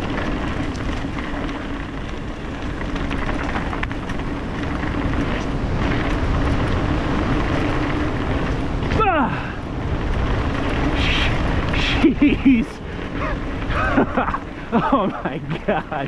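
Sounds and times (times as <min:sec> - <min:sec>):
bike clicks and rattles: 0:00.0 - 0:16.0
bike tyres rolling on dirt: 0:00.0 - 0:16.0
wind rumble on camera: 0:00.0 - 0:16.0.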